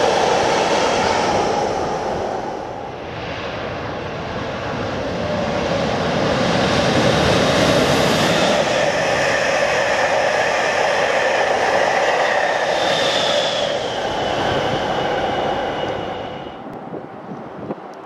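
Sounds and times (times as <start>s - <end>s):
locomotive high whine: 0.0s - 18.0s
train passing at speed: 0.0s - 18.0s.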